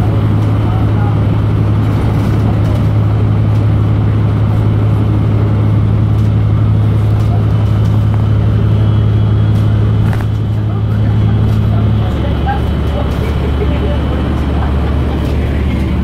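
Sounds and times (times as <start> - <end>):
vehicle drone with road noise: 0.0 - 16.0.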